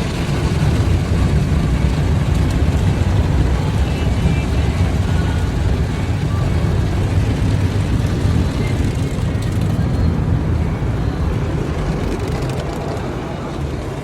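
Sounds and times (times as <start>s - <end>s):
car wash rushing and rumbling: 0.0s - 14.0s.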